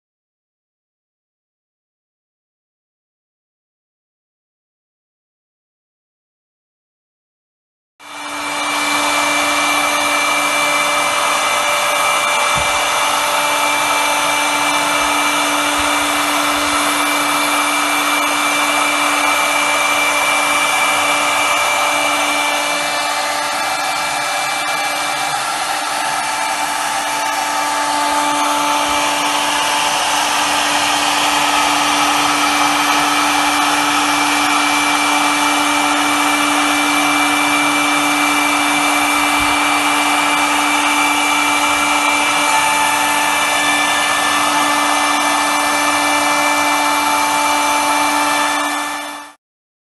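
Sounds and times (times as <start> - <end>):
cutter hissing through wood: 8.0 - 49.4
router spindle whine: 8.0 - 49.4.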